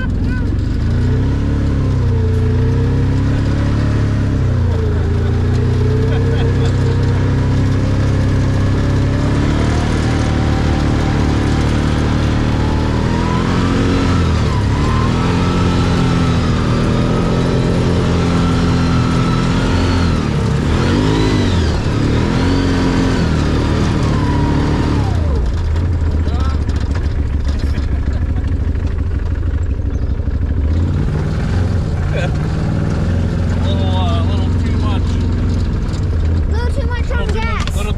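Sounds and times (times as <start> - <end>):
vehicle engine accelerating: 0.0 - 37.9.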